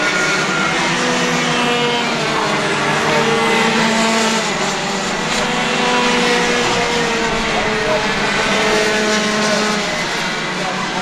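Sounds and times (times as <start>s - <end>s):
racing kart engines: 0.0s - 11.0s.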